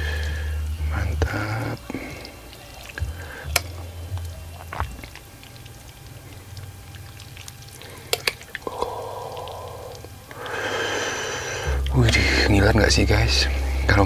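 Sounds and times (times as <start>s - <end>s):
liquid hissing: 0.0s - 14.0s.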